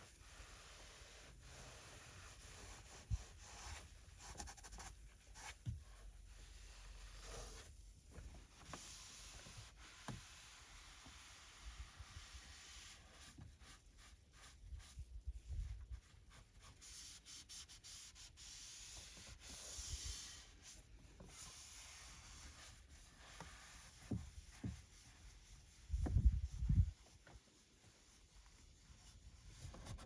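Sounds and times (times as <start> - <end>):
cloth wiping surfaces: 0.0 - 30.0.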